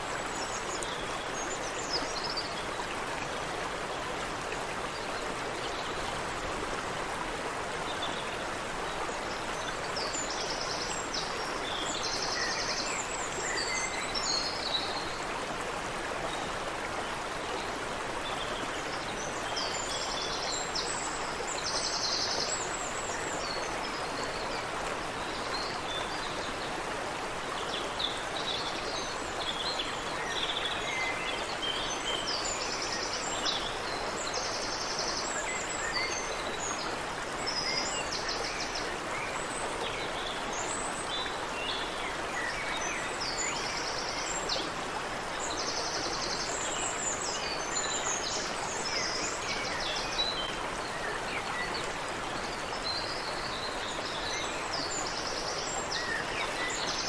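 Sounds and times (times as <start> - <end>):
stream water running: 0.0 - 57.0.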